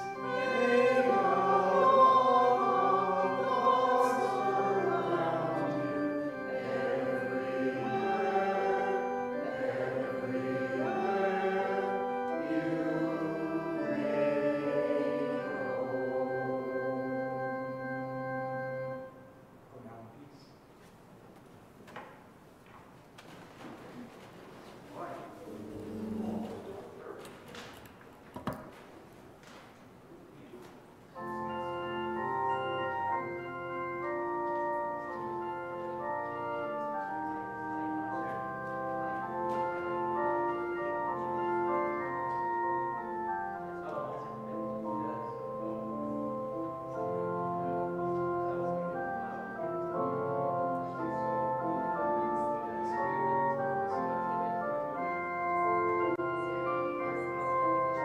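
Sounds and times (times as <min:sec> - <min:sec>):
church organ chords: 0:00.0 - 0:20.2, 0:25.0 - 0:27.3, 0:30.9 - 0:58.0.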